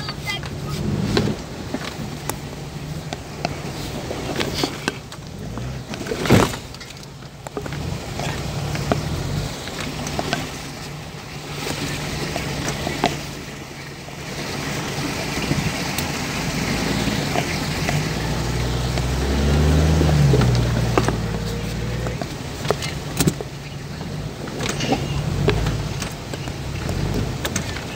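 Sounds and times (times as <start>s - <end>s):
knocks and clunks: 0.0s - 13.6s, 14.6s - 27.9s
truck engine at low revs: 0.0s - 27.9s.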